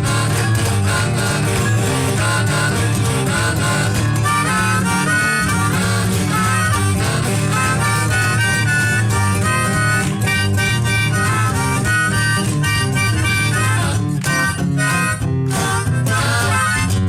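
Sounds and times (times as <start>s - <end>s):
band playing instrumental music: 0.0s - 17.0s
guitar: 0.0s - 17.0s
held-note lead: 0.0s - 17.0s
steady bass: 0.0s - 17.0s.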